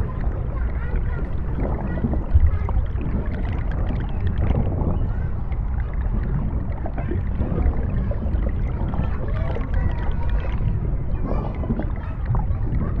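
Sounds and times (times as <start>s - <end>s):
bubbles gurgling and popping: 0.0s - 13.0s
deep underwater rumble: 0.0s - 13.0s.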